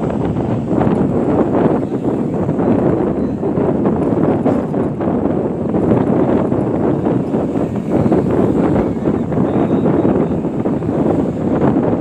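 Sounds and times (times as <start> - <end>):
vehicle rumble on road: 0.0 - 12.0
wind buffeting microphone: 0.0 - 12.0.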